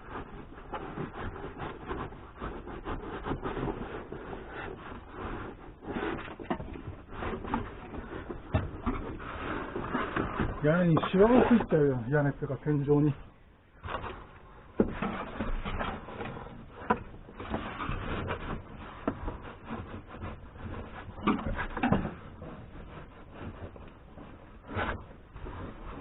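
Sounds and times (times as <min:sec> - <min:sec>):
rubbing and scraping: 0:00.0 - 0:26.0.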